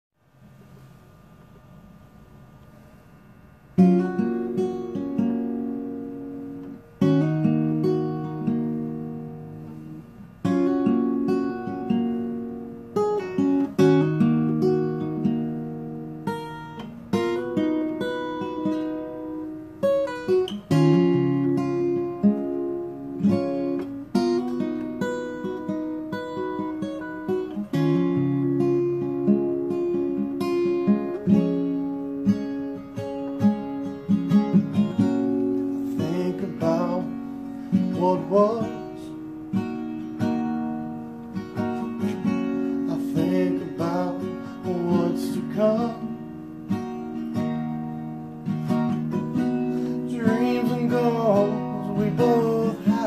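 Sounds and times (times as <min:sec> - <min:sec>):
acoustic guitar strumming chords: 0:00.4 - 0:53.0.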